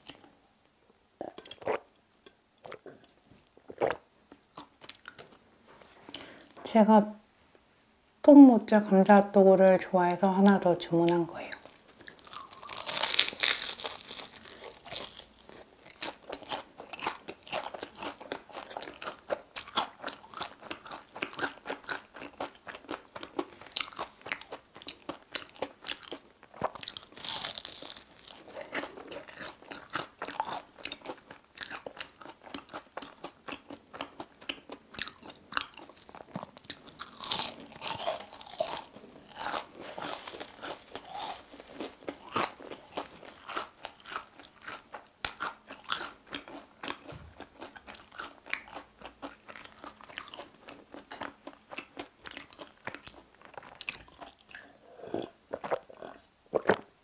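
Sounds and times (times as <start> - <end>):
crunching and chewing fried food: 3.7 - 5.4, 11.4 - 56.9.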